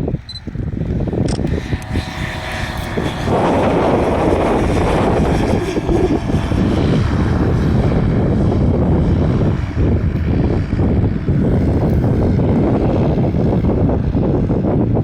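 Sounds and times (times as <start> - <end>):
propeller aircraft engine: 0.0 - 15.0.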